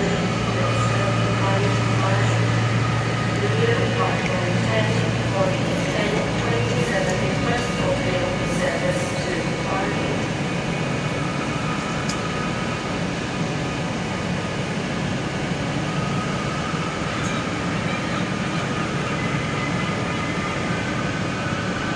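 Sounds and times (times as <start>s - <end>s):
diesel train rumbling: 0.0s - 21.9s.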